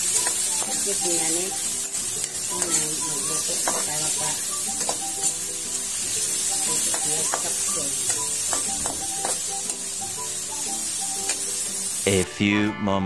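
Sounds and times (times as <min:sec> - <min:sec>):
food sizzling in hot oil: 0:00.0 - 0:12.3.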